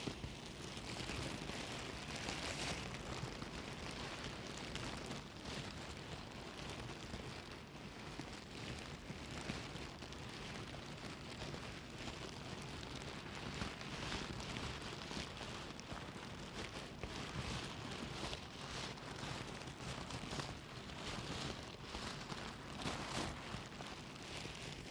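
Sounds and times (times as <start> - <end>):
plastic bag rustling: 0.0 - 24.9.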